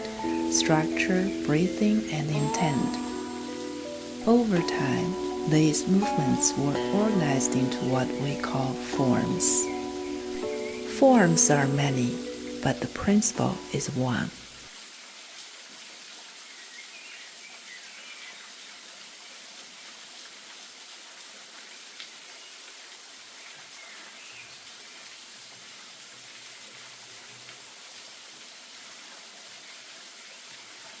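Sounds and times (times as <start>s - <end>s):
rain-like hiss: 0.0s - 31.0s.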